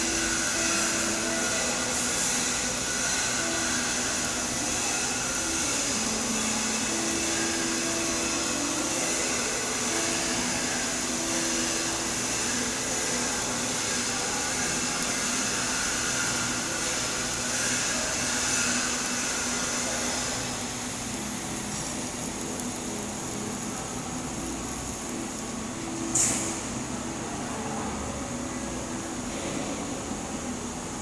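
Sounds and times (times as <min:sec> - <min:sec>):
welding arc hissing: 0:00.0 - 0:31.0.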